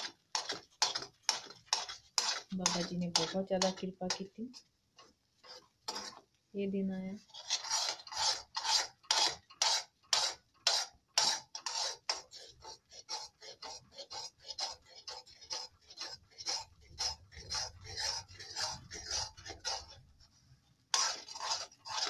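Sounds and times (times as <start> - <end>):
metal spatula scraping a pot: 0.0 - 6.4, 7.1 - 22.0.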